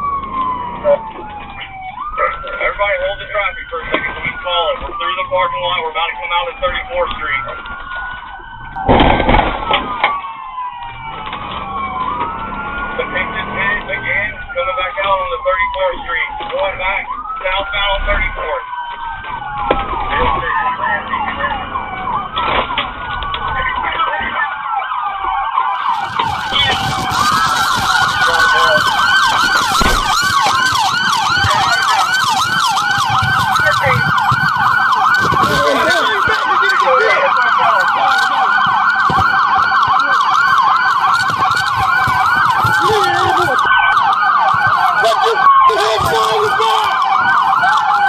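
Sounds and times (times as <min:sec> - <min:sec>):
police sirens wailing: 0:00.0 - 0:48.0
police sirens yelping: 0:00.0 - 0:48.0.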